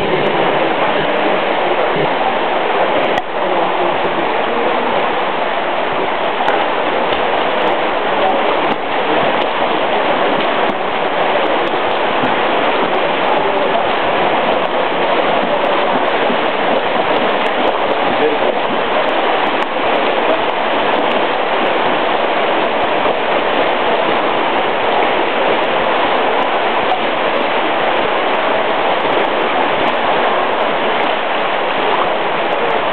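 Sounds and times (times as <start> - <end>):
rushing water in pool hall: 0.0 - 32.9.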